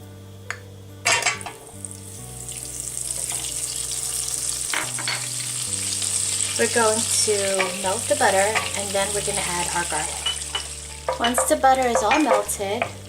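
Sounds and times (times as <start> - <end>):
butter sizzling in hot oil: 1.1 - 13.0.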